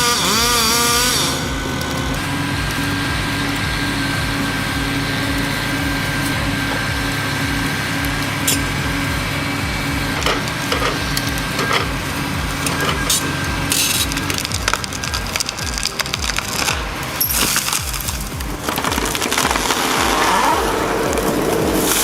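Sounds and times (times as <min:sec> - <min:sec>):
heavy machinery running: 0:00.0 - 0:22.0
wood cracking and splintering: 0:00.0 - 0:22.0.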